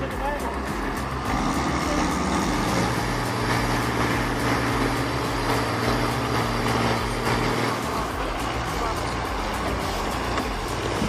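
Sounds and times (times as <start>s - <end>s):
large engine humming steadily: 0.0s - 11.0s.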